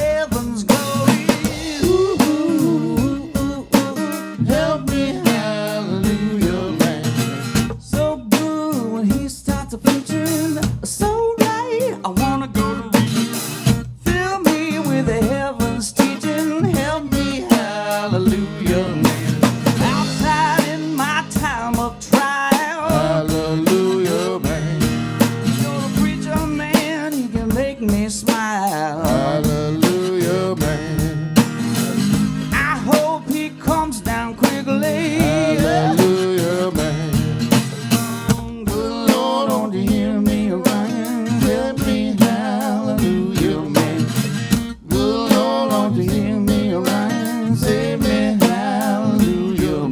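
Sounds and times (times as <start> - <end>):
band playing blues: 0.0 - 49.9.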